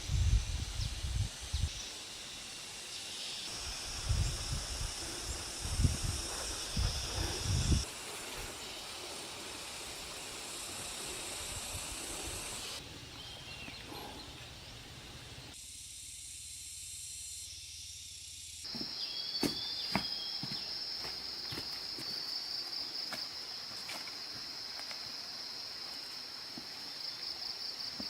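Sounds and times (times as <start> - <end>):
high outdoor hiss: 0.0 - 28.0.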